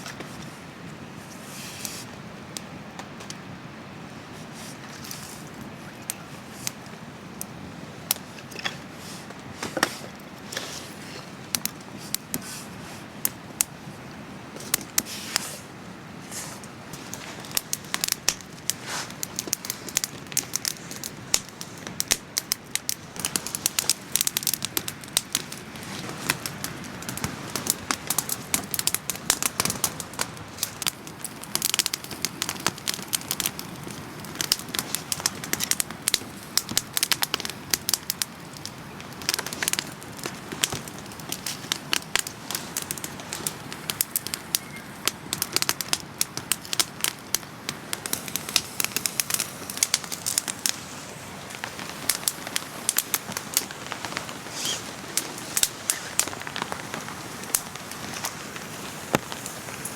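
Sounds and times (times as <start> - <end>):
campfire crackling and popping: 0.0 - 59.9
falling rain: 0.0 - 59.9.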